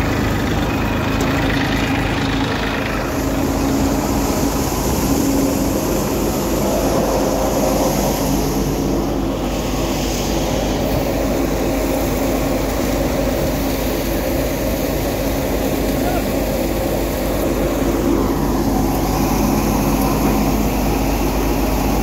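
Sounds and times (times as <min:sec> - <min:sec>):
thresher machine running: 0:00.0 - 0:22.0.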